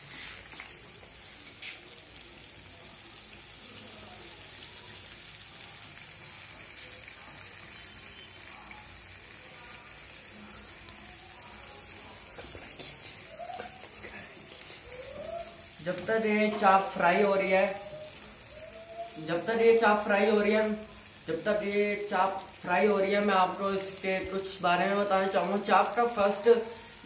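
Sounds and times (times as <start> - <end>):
food deep-frying in oil: 0.0 - 27.0.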